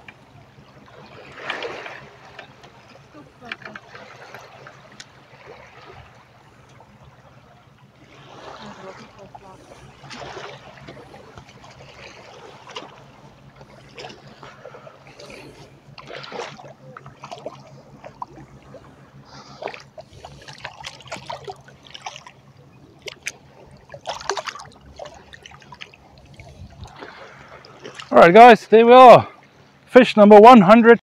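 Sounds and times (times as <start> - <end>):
shallow water splashing: 0.0 - 30.6.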